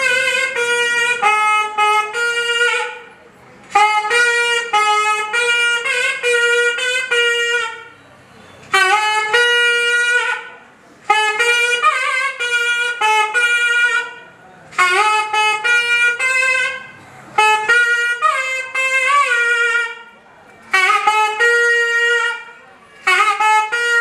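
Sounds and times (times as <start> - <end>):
double-reed pipe melody: 0.0 - 7.9, 8.7 - 24.0.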